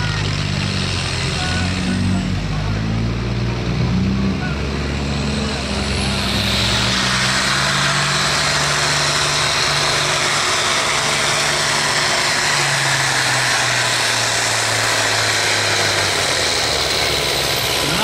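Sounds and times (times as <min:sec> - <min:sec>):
tractor engine running flat out: 0:00.0 - 0:18.0.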